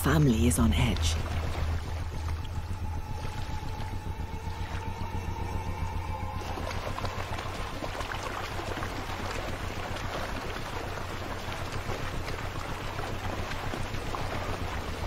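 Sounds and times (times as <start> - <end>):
low steady drone: 0.0 - 15.0
water splashing and sloshing: 0.0 - 15.0.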